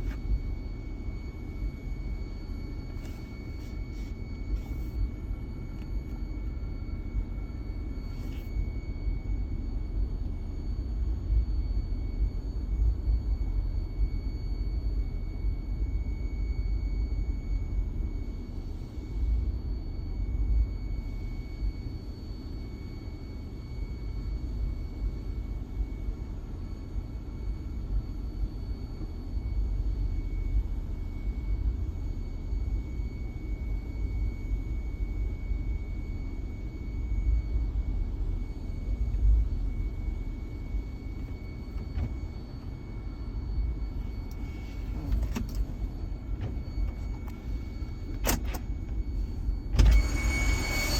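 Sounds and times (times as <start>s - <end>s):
engine low rumble: 0.0s - 50.9s
faint high whine: 0.0s - 50.9s.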